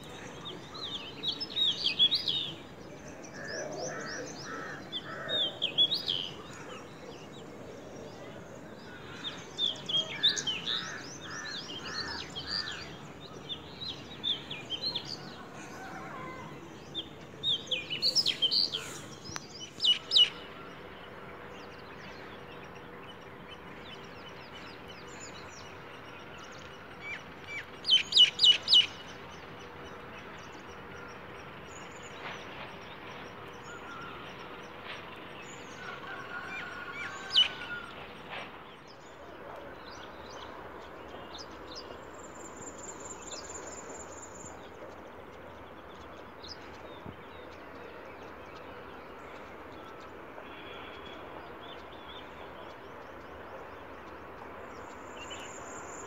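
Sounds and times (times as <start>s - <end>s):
birds singing and chirping: 0.0s - 56.0s
outdoor background noise: 0.0s - 56.0s.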